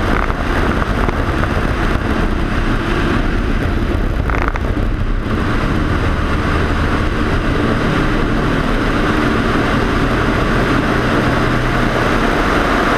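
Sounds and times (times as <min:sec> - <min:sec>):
airplane engine and propeller: 0:00.0 - 0:12.9
wind rush on microphone: 0:00.0 - 0:12.9.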